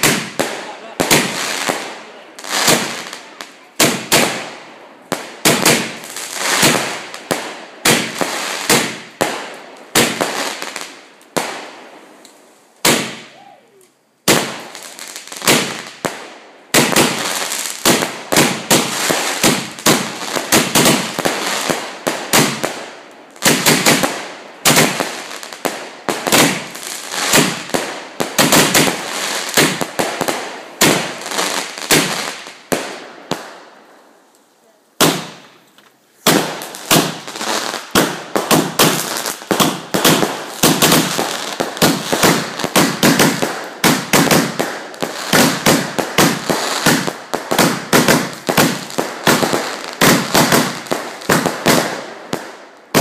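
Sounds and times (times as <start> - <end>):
firework bangs and crackling bursts: 0.0 - 34.3, 35.0 - 53.0.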